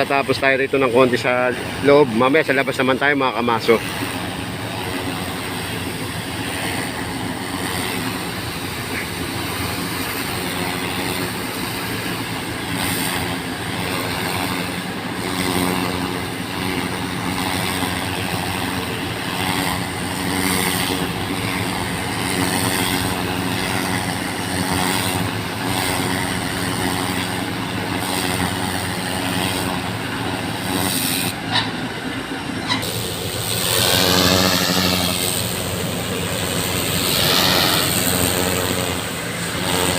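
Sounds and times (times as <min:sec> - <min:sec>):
pump engine running: 0:00.0 - 0:39.9
water jet spraying pavement: 0:00.0 - 0:39.9.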